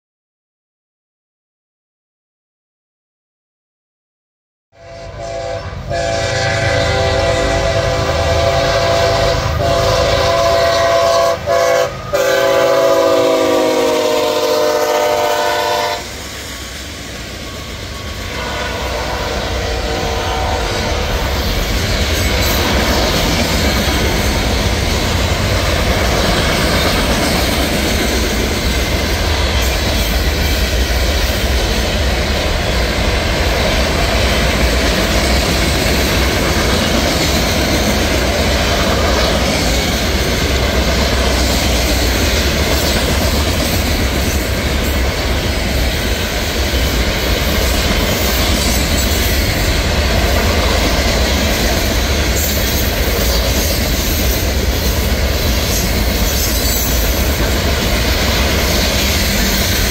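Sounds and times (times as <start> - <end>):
steel wheels on rails: 5.9 - 59.9.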